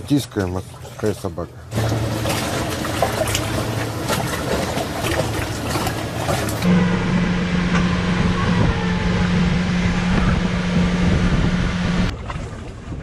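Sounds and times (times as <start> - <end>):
wind and water rushing: 0.0 - 13.0
motorboat engine running: 0.6 - 13.0.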